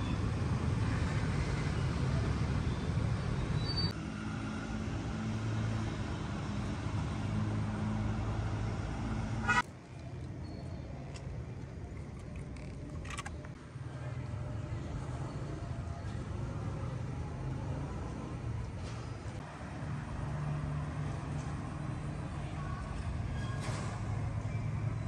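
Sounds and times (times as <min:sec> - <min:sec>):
road traffic: 0:00.0 - 0:25.0
vehicle engine droning: 0:00.0 - 0:25.0.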